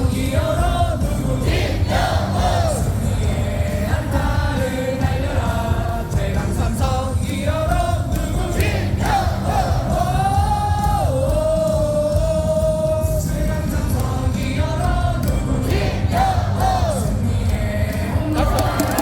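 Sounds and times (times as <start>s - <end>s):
loud amplified music: 0.0s - 19.0s
stadium crowd singing: 0.0s - 19.0s.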